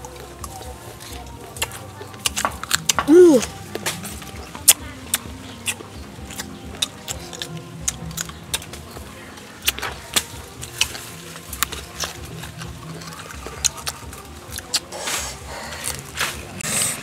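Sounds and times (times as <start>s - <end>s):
chewing and lip-smacking: 0.0s - 17.0s
crunches of crisp fruit: 0.0s - 17.0s.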